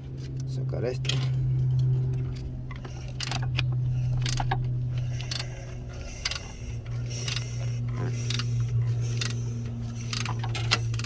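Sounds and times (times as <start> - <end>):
steady low hum: 0.0 - 11.0
hand tools clicking on metal: 1.0 - 11.0.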